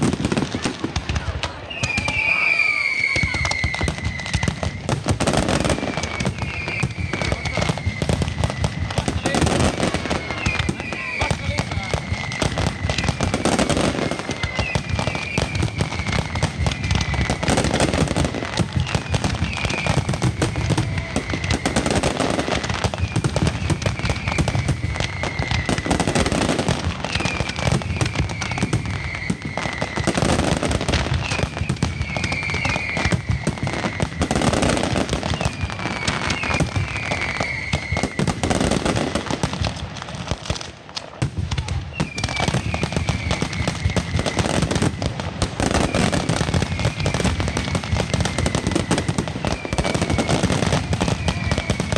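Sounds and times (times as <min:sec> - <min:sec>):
falling firework whistle: 0:00.0 - 0:51.9
fireworks banging and crackling: 0:00.0 - 0:51.9.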